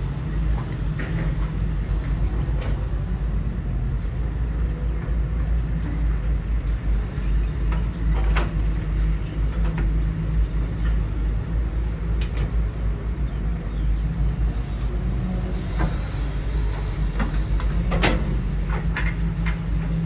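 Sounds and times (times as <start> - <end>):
model machines rumbling: 0.0 - 20.0.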